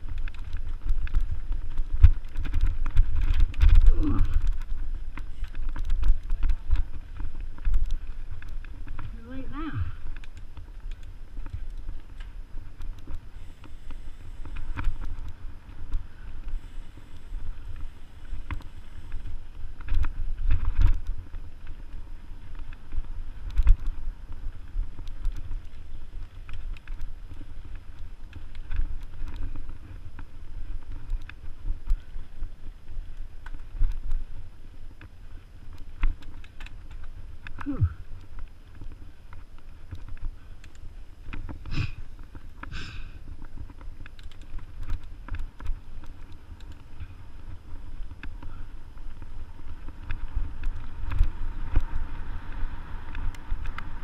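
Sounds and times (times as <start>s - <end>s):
bike clicking and rattling: 0.0s - 54.0s
bike tyres rumbling on dirt: 0.0s - 54.0s.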